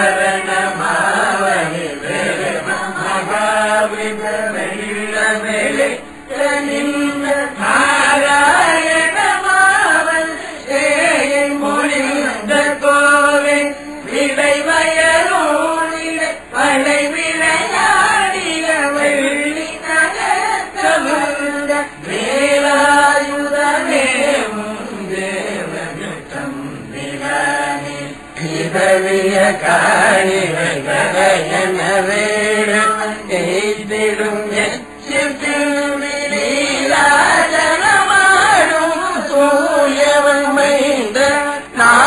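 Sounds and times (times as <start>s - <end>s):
voices chanting a devotional hymn: 0.0s - 42.0s.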